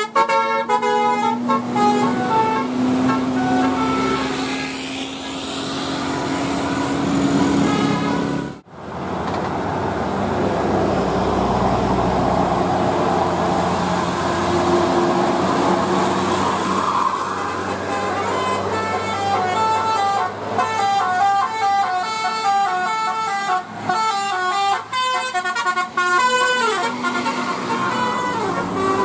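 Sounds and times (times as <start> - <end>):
bus engine driving by: 0.0 - 29.0
road traffic: 0.0 - 29.0.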